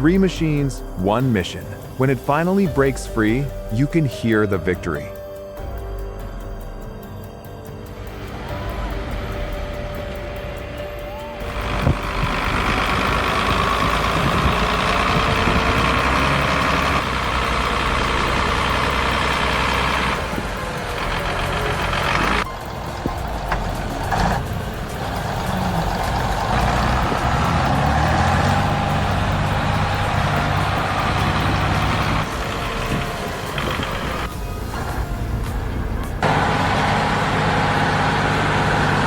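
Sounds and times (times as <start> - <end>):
heavy diesel engines running hard: 7.7 - 39.0.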